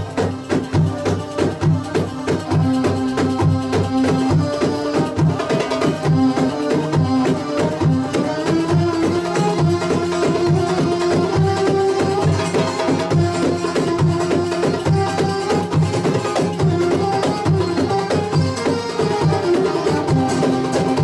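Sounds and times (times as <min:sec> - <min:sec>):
hand drums: 0:00.0 - 0:21.0
held melody line: 0:00.0 - 0:21.0.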